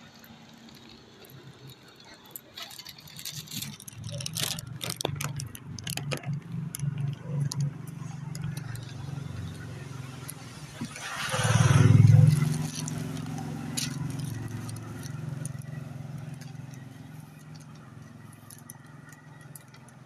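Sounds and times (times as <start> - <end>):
handling rustles and clicks: 0.0 - 20.0.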